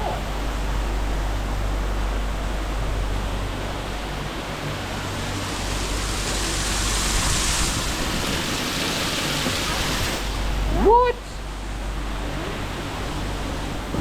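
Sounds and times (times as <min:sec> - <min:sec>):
waterfall water rushing: 0:00.0 - 0:14.0.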